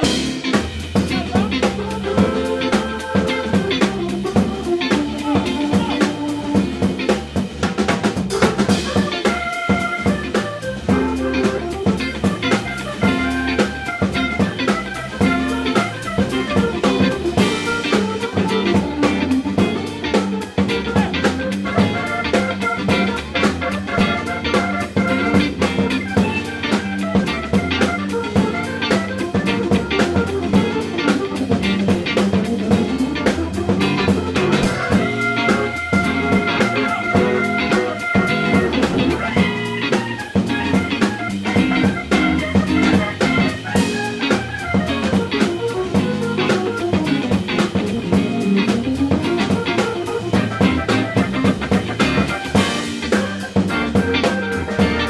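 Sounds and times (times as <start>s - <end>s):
guitar and drum music: 0.0s - 55.0s.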